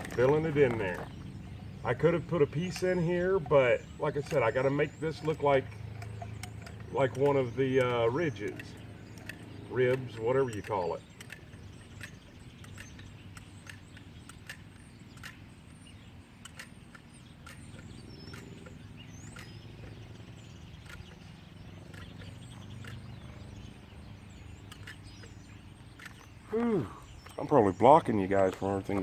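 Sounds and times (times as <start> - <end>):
small birds chirping: 0.0 - 29.0
light clicks: 2.0 - 27.6.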